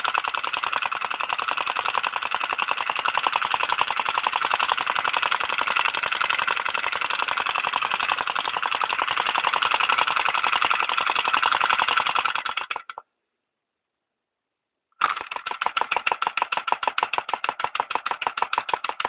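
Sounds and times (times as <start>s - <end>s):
small engine rapid clatter: 0.0s - 13.1s, 15.0s - 19.0s.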